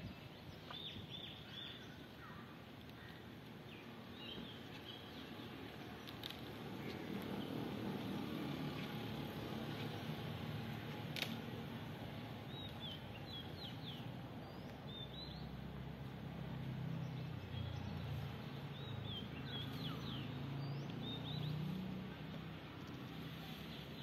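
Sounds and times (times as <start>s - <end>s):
small birds chirping: 0.0s - 11.4s, 12.4s - 24.0s.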